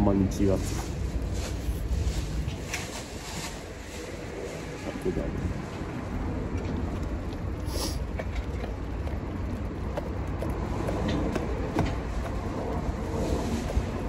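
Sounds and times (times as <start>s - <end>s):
street traffic rumble: 0.0s - 14.0s
wind on microphone: 0.6s - 14.0s.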